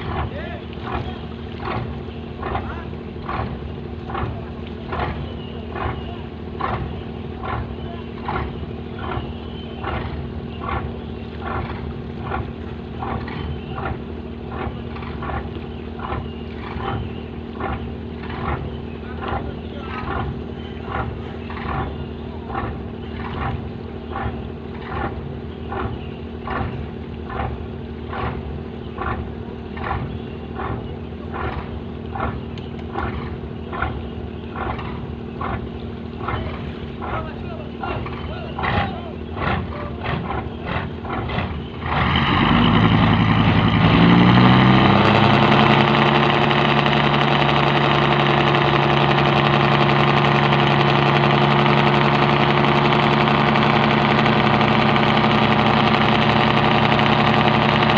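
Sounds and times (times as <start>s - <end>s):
boat engine humming: 0.0s - 57.9s.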